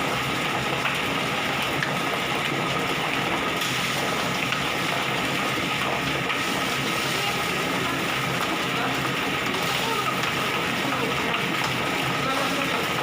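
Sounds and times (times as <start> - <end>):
feather-plucking machine running: 0.0 - 13.0.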